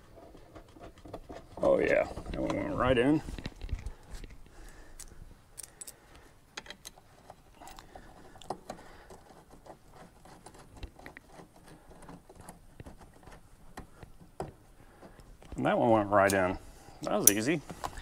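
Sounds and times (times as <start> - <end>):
faint clicks and rustles: 0.0 - 18.0.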